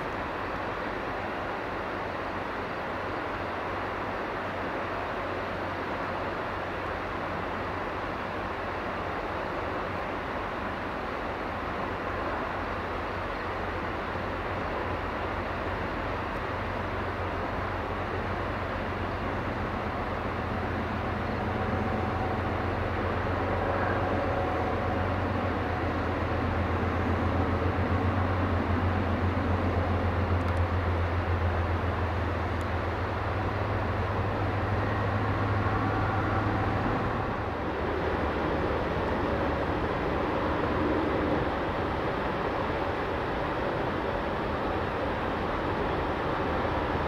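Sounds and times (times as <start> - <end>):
diesel locomotive engine drone: 0.0 - 47.0
train rumble: 0.0 - 47.0.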